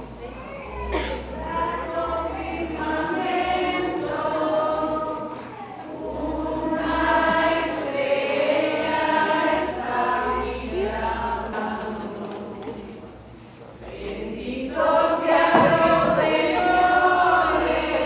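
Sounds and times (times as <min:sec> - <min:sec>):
group singing a hymn: 0:00.9 - 0:18.0.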